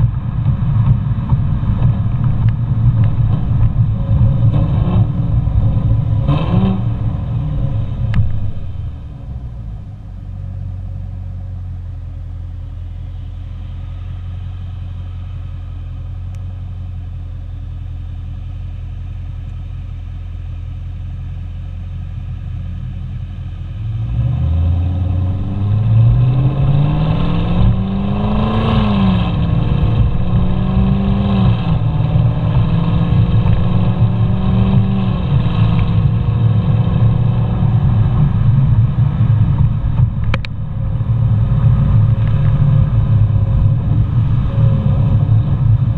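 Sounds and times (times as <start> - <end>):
car exhaust revving: 0.0 - 45.9.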